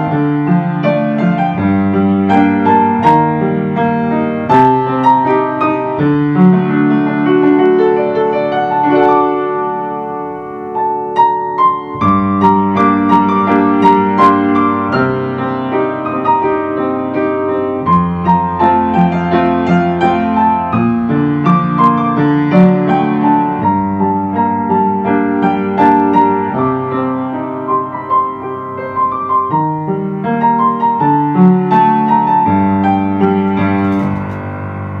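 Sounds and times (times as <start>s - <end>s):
slow piano music: 0.0s - 35.0s.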